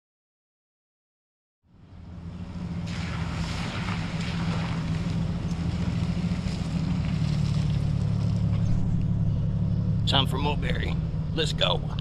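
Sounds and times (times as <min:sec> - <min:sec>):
low mechanical hum: 0:01.7 - 0:12.0.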